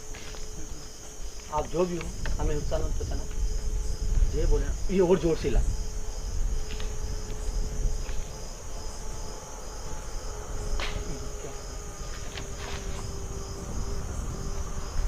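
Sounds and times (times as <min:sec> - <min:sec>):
cricket trill: 0:00.0 - 0:15.0.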